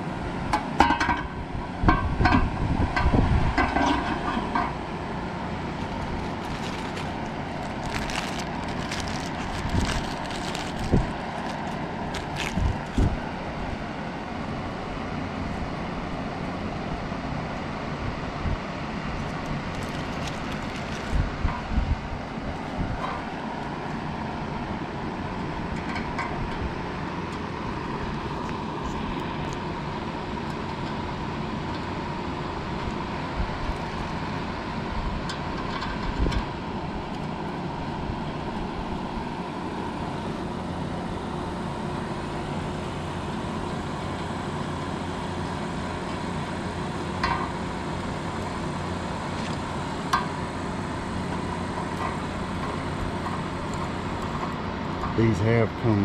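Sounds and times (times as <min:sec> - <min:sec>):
fan whirring hum: 0:00.0 - 0:56.0.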